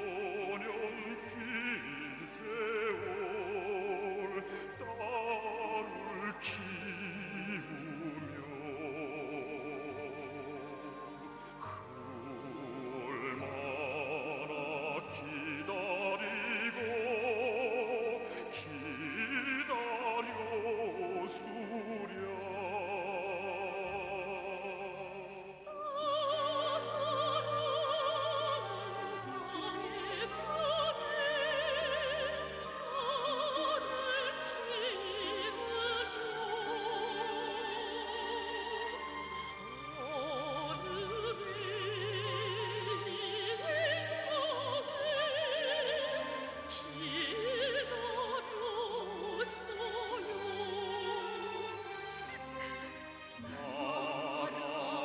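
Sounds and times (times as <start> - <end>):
operatic singing: 0.0 - 55.0
orchestral accompaniment: 0.0 - 55.0.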